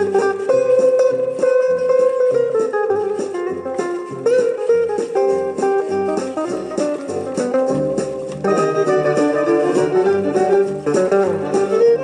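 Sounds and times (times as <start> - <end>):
plucked guitar swing music: 0.0 - 12.0
walking bass: 0.0 - 12.0.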